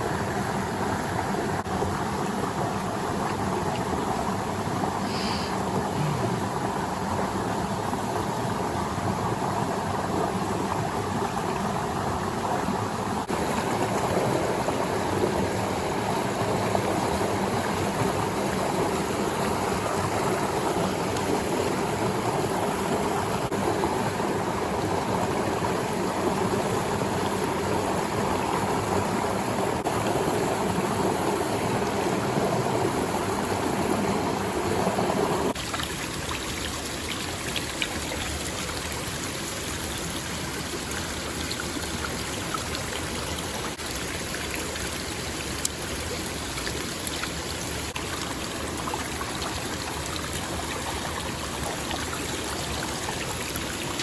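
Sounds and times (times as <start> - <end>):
mountain stream running: 0.0 - 54.0.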